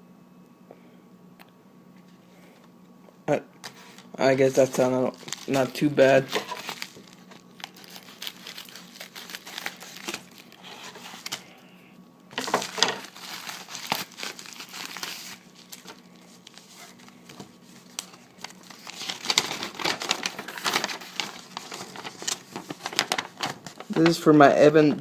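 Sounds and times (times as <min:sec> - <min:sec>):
card packaging crinkling: 0:03.6 - 0:11.7, 0:12.3 - 0:24.4.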